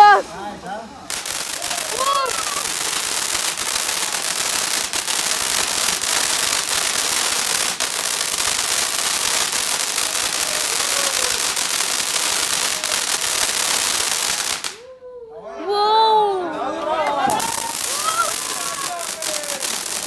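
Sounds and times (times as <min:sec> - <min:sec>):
fireworks crackling: 0:00.0 - 0:14.9, 0:17.0 - 0:20.0.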